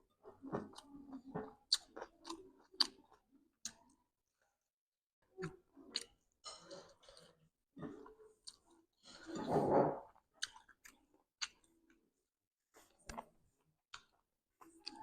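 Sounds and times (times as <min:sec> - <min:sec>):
person chewing food: 0:00.2 - 0:04.6, 0:05.2 - 0:15.0.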